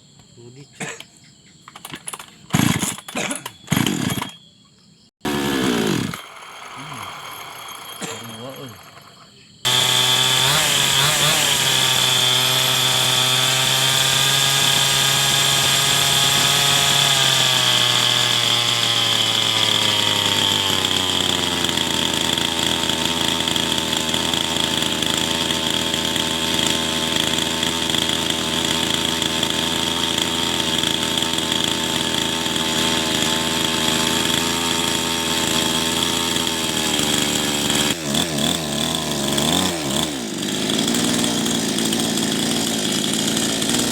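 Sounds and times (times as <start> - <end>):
small petrol engine running: 1.8 - 4.4, 5.2 - 43.9.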